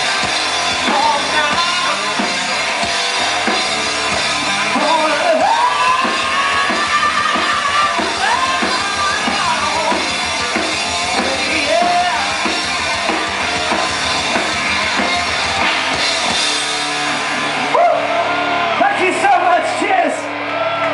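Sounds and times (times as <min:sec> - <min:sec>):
rock band playing live: 0:00.0 - 0:20.9.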